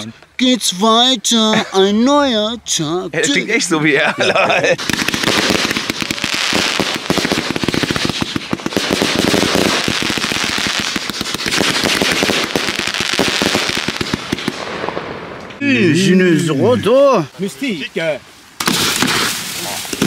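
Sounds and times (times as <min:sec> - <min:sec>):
fireworks crackling: 0:00.4 - 0:15.6, 0:16.3 - 0:20.0.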